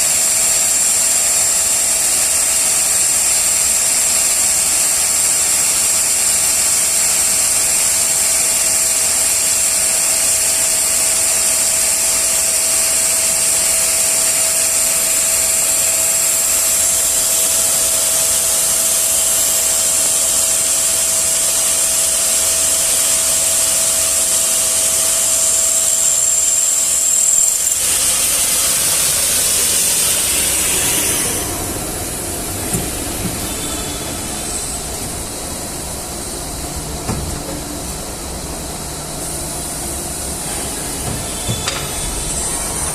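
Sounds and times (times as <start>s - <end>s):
wood cnc machine hissing and whining: 0.0s - 42.9s.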